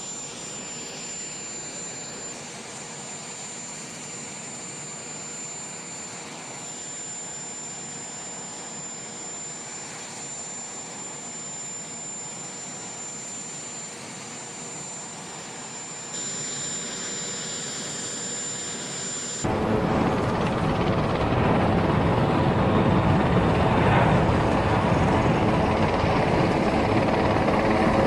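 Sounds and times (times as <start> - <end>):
jet engines roaring at takeoff: 0.0 - 28.0
jet engines whining: 0.0 - 28.0.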